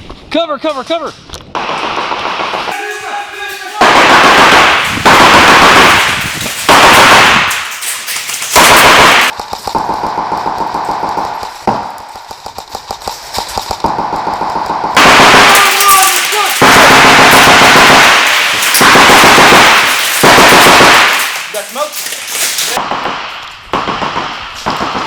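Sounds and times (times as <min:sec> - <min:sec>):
airsoft guns firing full-auto: 0:01.6 - 0:12.6, 0:13.4 - 0:25.0.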